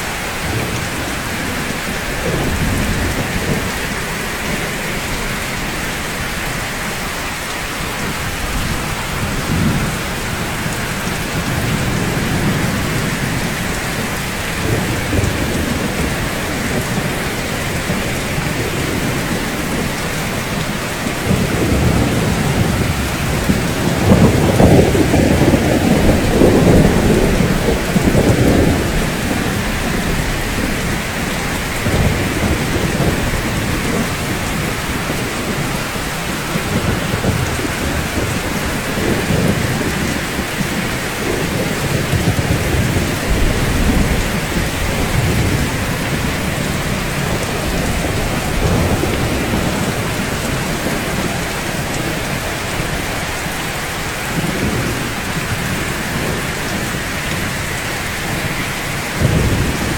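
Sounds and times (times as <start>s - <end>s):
rain on rooftops: 0.0s - 59.9s.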